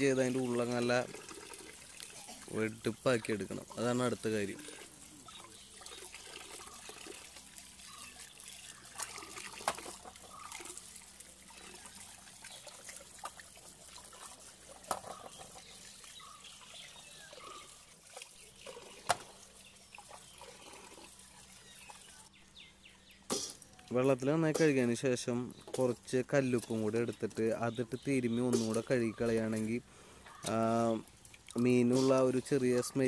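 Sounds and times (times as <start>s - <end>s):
water trickling and splashing: 0.0s - 33.0s.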